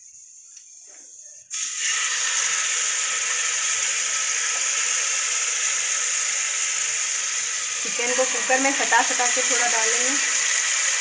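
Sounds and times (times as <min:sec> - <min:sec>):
chicken sizzling in hot fat: 0:00.0 - 0:11.0.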